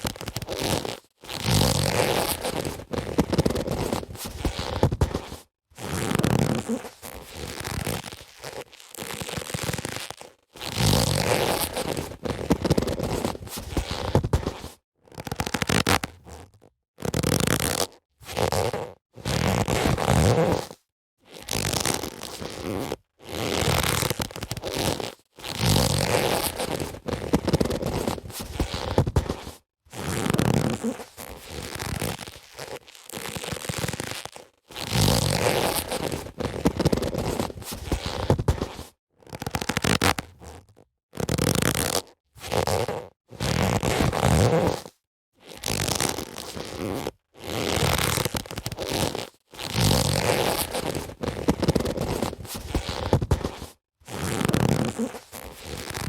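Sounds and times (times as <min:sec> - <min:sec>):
boxing gloves rubbing: 0:00.0 - 0:14.8, 0:17.0 - 0:44.9, 0:45.5 - 0:56.0.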